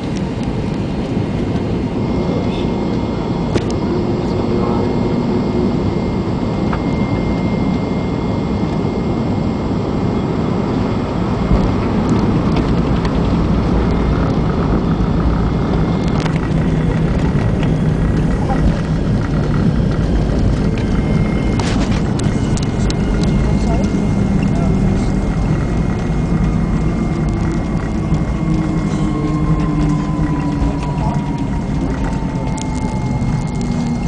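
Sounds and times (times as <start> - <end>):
airliner cabin engine rumble: 0.0 - 34.0.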